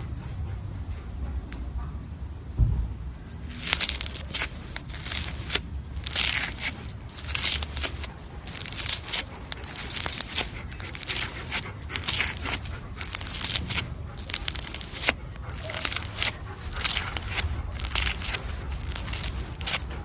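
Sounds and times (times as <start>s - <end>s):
slime squeezed by hand crackling: 3.5s - 20.0s.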